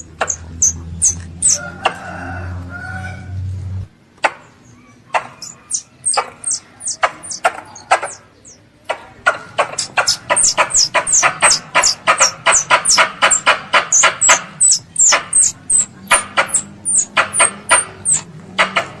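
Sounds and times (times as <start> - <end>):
squirrel chipping calls: 0.0 - 2.0, 4.2 - 19.0.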